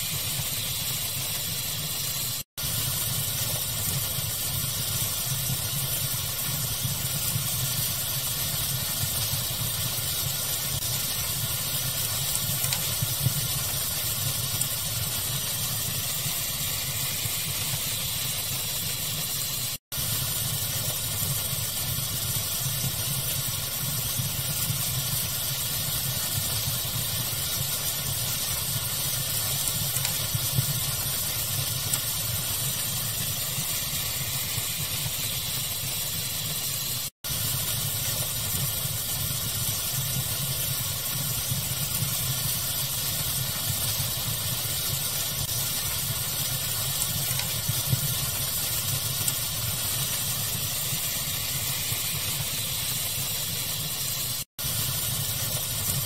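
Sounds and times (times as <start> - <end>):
faint fire crackles: 0.0 - 56.0
steady hiss: 0.0 - 56.0.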